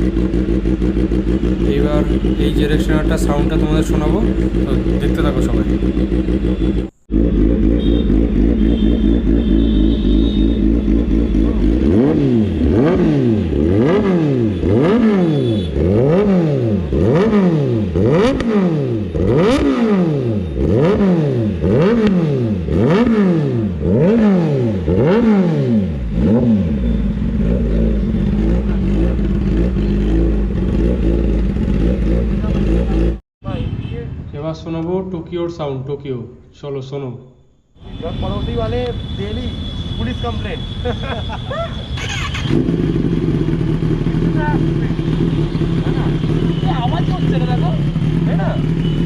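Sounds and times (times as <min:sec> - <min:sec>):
motorcycle engine idling and revving: 0:00.0 - 0:34.3, 0:37.8 - 0:49.0.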